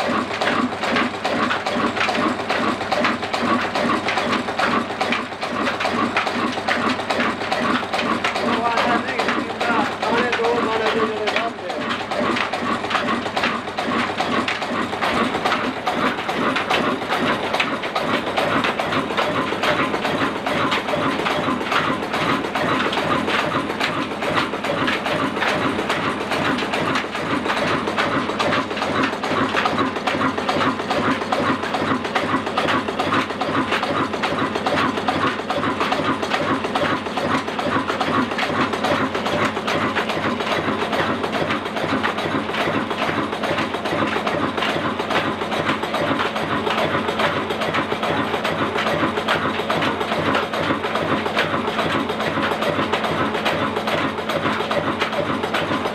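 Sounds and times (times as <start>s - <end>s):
rapid mechanical clatter: 0.0s - 55.9s
stationary diesel engine running: 0.0s - 55.9s.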